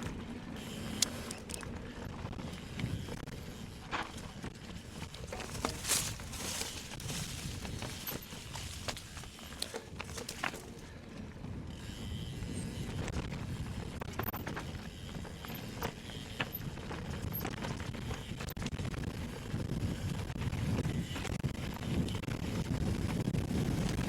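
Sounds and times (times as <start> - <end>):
bike clicks and knocks: 0.0 - 24.0
tyres rumbling on trail: 0.0 - 24.0.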